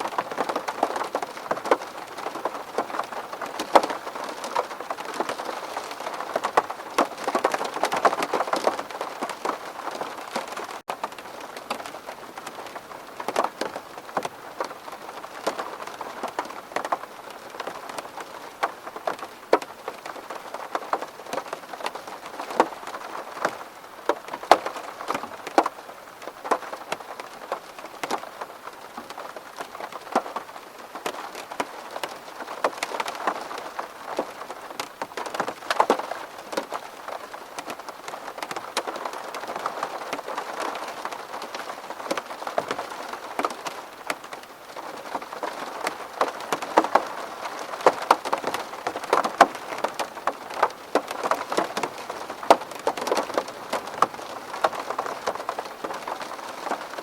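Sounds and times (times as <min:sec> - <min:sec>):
rain pattering on window glass: 0:00.0 - 0:57.0.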